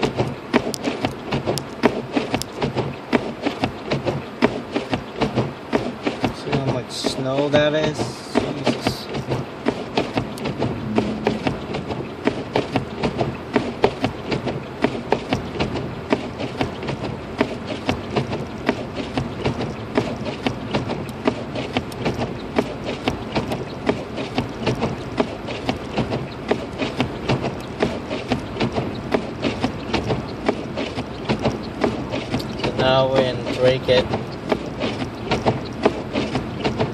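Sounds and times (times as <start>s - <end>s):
car road rumble: 0.0s - 36.9s
knocks and clicks: 0.0s - 36.9s.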